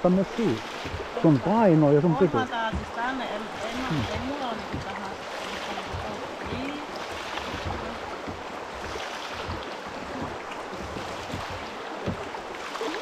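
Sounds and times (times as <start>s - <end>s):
paddle strokes splashing: 0.0s - 13.0s
water rushing over rocks: 0.0s - 13.0s.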